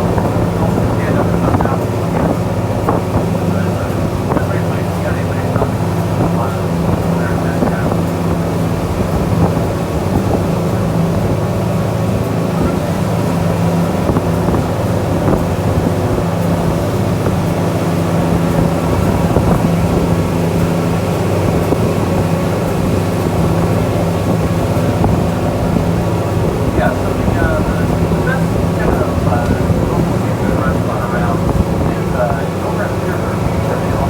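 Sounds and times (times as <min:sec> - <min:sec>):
boat engine droning: 0:00.0 - 0:34.0
wind buffeting microphone: 0:00.0 - 0:34.0.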